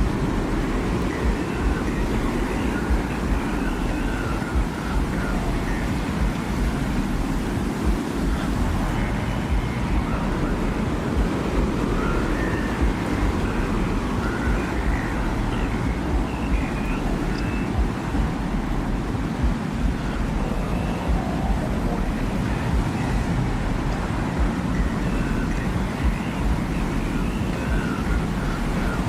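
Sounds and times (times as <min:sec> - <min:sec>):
faint whistling tones: 0:00.0 - 0:29.0
wind rushing rumble: 0:00.0 - 0:29.0.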